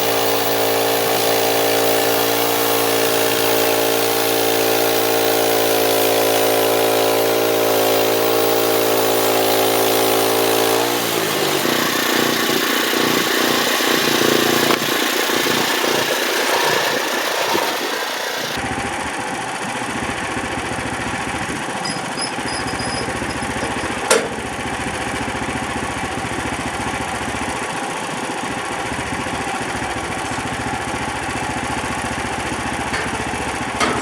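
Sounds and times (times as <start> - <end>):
sawmill gasoline engine running: 0.0 - 34.0.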